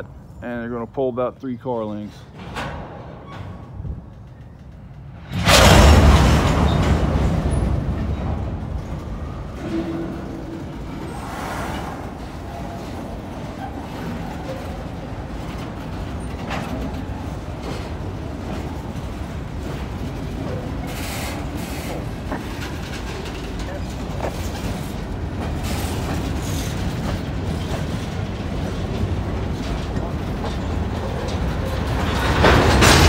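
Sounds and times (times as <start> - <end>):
diesel locomotive rumbling: 0.0 - 33.0.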